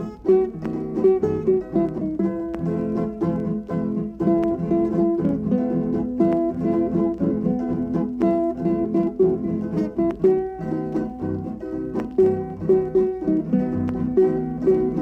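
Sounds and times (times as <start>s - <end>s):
bass notes: 0.0s - 15.0s
guitars picking a melody: 0.0s - 15.0s.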